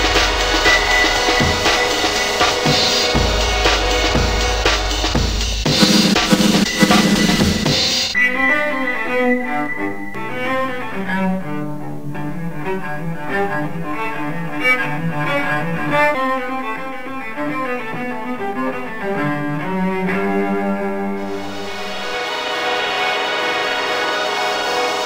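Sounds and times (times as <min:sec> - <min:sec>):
bowed strings music: 0:00.0 - 0:05.7, 0:08.1 - 0:25.0.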